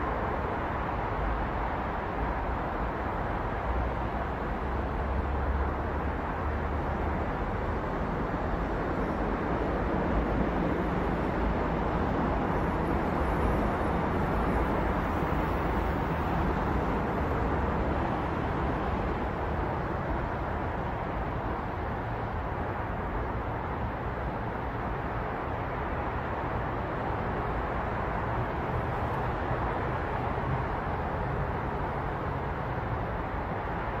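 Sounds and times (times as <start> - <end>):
city road traffic: 0.0 - 34.0.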